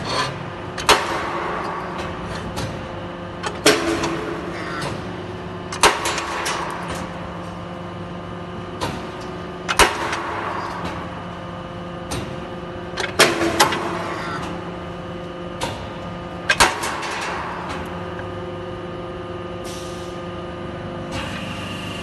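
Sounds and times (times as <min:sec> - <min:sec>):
hydraulic machine humming: 0:00.0 - 0:22.0.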